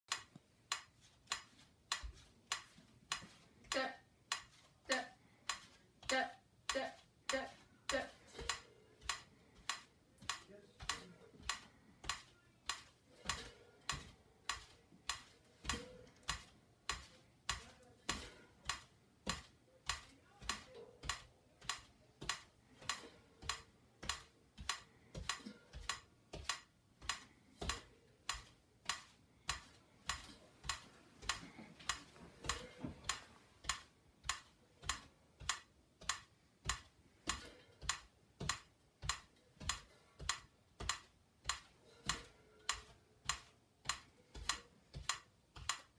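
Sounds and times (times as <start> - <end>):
metronome ticking: 0.1 - 45.9.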